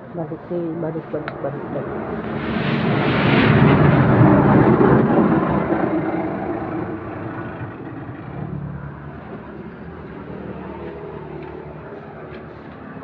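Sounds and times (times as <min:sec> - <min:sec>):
motor vehicle passing: 0:00.3 - 0:13.0.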